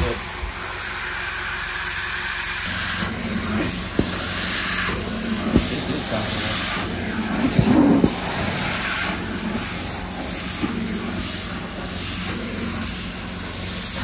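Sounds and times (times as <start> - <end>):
low machine hum: 0.0 - 14.0
water spray and vacuum suction hiss: 0.0 - 14.0.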